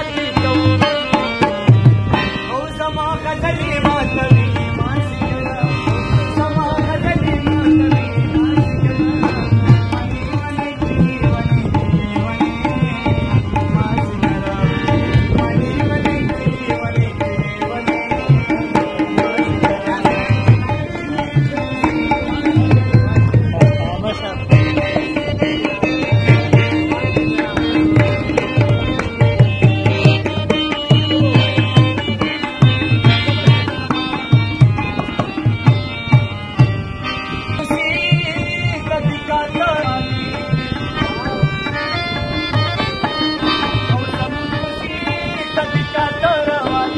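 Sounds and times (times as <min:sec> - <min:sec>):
harmonium melody: 0:00.0 - 0:46.9
tabla drumming: 0:00.0 - 0:46.9.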